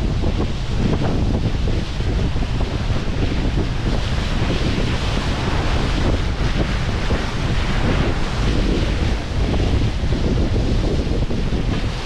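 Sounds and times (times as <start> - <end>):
seawater rushing along ship's bow: 0.0 - 12.0
wind buffeting microphone: 0.0 - 12.0.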